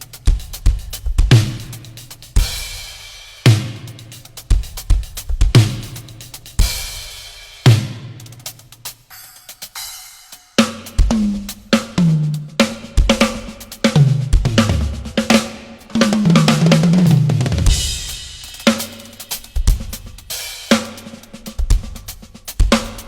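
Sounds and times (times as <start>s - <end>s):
snare drum strokes: 0.0s - 23.0s.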